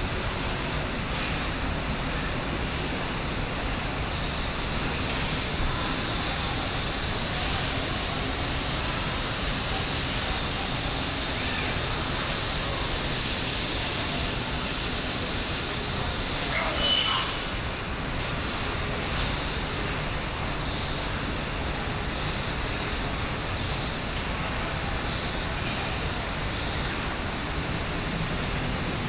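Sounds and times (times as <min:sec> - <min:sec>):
hiss of machinery and air: 0:00.0 - 0:29.0.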